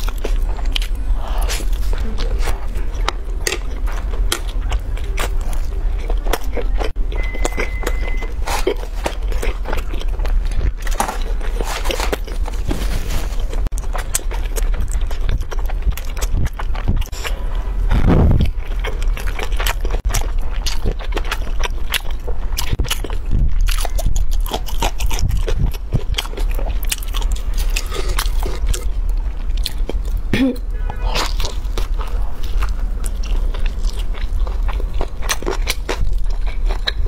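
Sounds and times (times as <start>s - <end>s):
chewing with mouth clicks: 0.0s - 12.6s, 13.6s - 37.0s
steady low hum: 0.0s - 37.0s.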